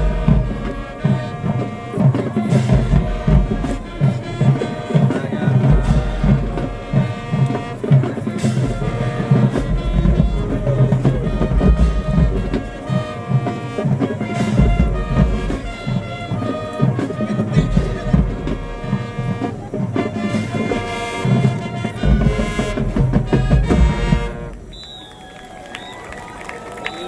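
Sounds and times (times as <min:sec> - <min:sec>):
drumline with bass drums: 0:00.0 - 0:27.0
held brass notes: 0:00.0 - 0:27.0
marching band playing: 0:00.0 - 0:27.0.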